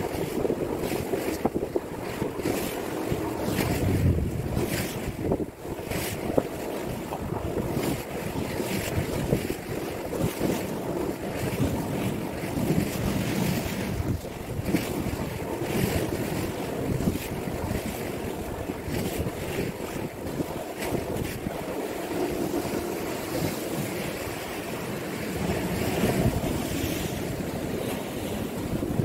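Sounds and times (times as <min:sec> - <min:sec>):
waves breaking against seawall: 0:00.0 - 0:29.0
wind buffeting microphone: 0:00.0 - 0:29.0.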